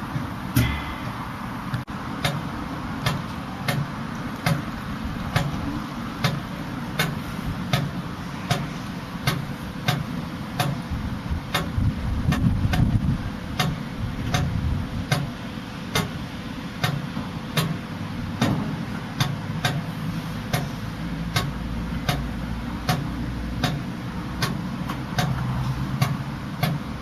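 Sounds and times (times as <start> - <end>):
diesel engine rumble: 0.0 - 27.0.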